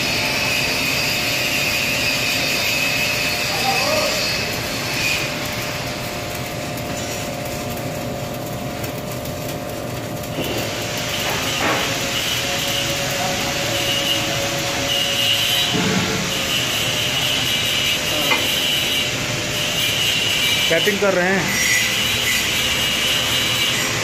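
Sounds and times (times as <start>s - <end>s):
welding arc hissing and crackling: 0.0s - 24.0s.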